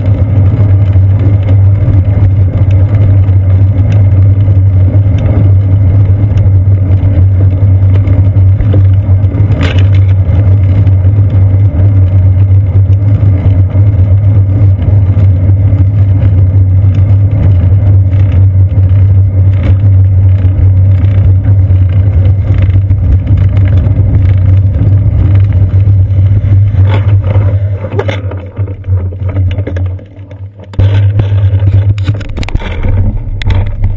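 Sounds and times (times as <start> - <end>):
wind and road rumble: 0.0 - 33.9.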